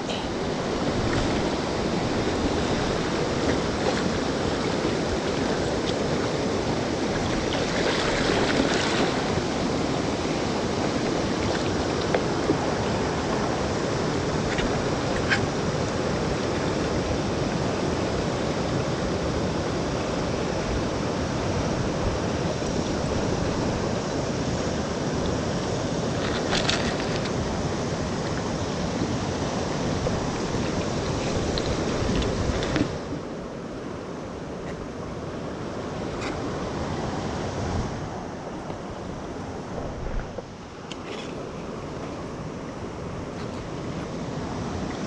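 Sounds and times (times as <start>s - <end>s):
river current rushing: 0.0s - 45.0s.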